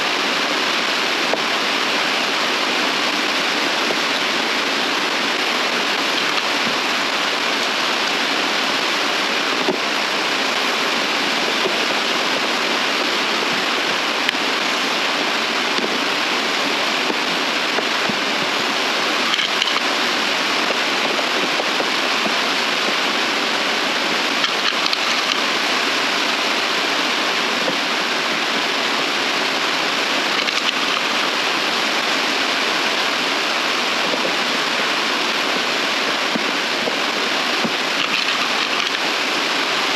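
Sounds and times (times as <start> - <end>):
steady rushing hiss: 0.0 - 39.9.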